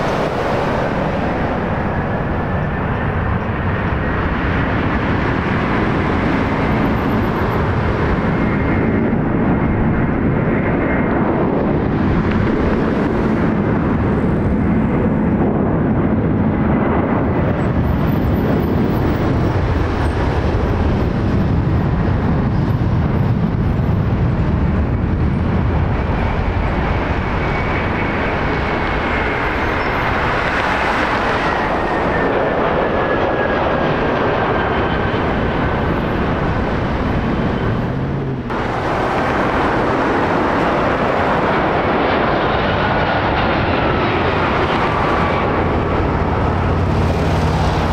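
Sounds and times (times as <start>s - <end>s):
high jet engine whine: 0.0s - 47.9s
jet engines on landing approach: 0.0s - 47.9s
jet engines roaring at takeoff: 0.0s - 47.9s.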